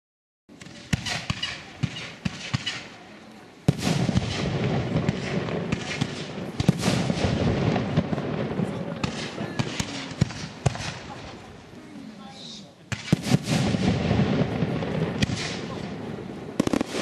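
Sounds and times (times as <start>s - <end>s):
fireworks bangs: 0.5s - 11.8s, 12.4s - 17.0s
fireworks crackle: 0.5s - 17.0s.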